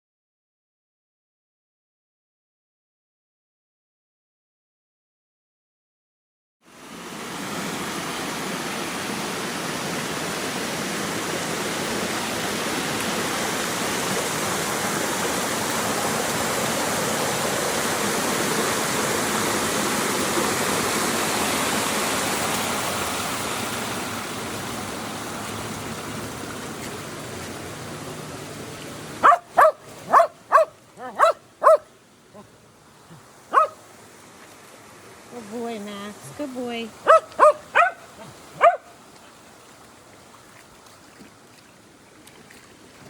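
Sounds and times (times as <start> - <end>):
creek water rushing: 6.7 - 43.0.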